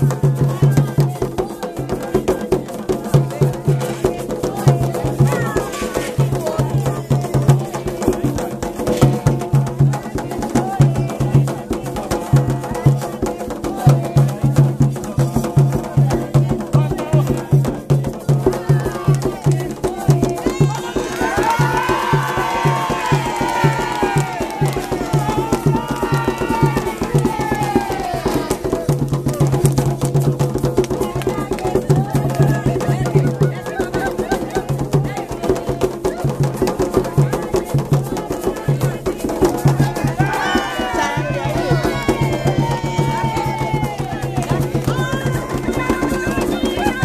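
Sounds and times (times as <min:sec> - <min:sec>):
hand drums beating: 0:00.0 - 0:47.0
sharp clicking percussion: 0:00.0 - 0:47.0
voices chanting: 0:00.0 - 0:47.0.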